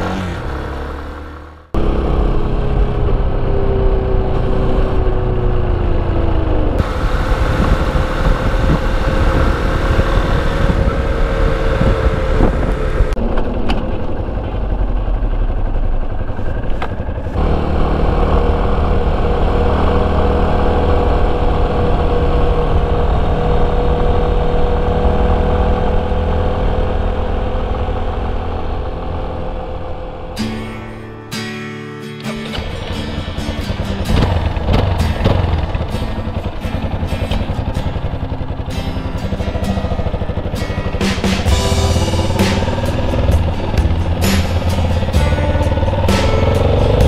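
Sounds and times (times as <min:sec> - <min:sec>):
motorcycle engine running: 0:00.0 - 0:31.1, 0:32.4 - 0:47.0
road and wind noise: 0:00.0 - 0:31.4, 0:32.3 - 0:47.0.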